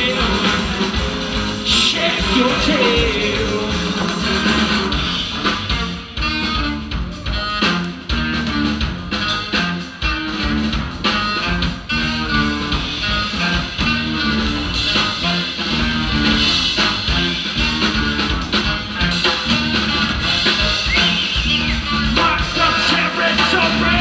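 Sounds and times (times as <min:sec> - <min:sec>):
drums keeping a beat: 0:00.0 - 0:24.0
guitar: 0:00.0 - 0:24.0.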